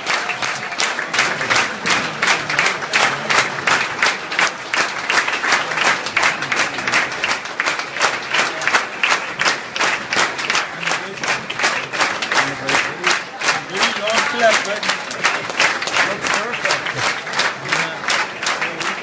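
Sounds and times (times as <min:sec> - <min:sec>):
group of people applauding: 0:00.0 - 0:19.0.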